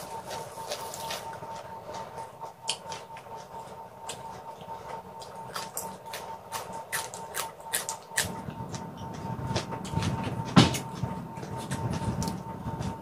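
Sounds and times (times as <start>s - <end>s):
crisp chewing crunches: 0.0s - 13.0s.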